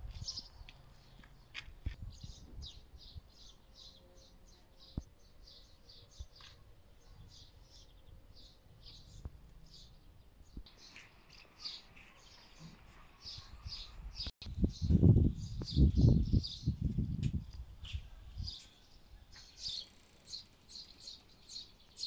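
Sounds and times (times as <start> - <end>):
small birds chirping: 0.1 - 22.0.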